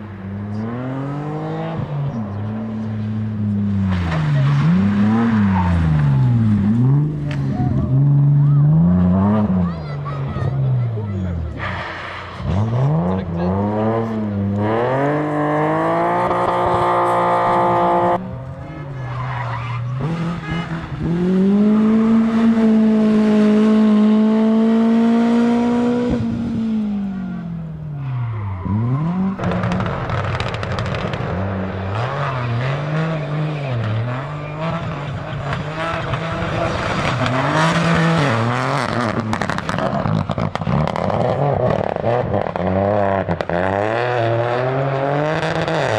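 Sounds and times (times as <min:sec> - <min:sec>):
car passing at high revs: 0:00.0 - 0:45.9
rally car engines revving: 0:00.0 - 0:45.9.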